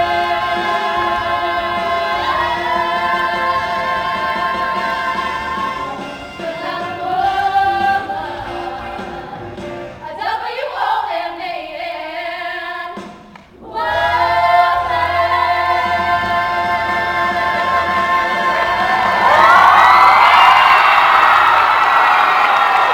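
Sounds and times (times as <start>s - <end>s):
women singing in a group: 0.0s - 13.0s, 13.6s - 19.6s.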